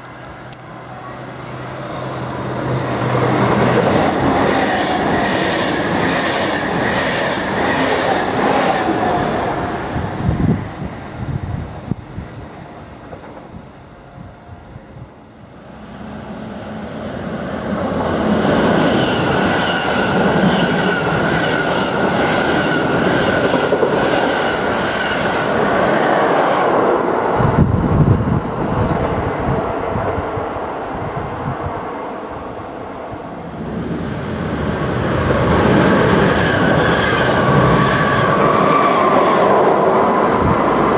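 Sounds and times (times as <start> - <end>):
high train whine: 0.0 - 40.9
train passing rumble: 0.0 - 40.9.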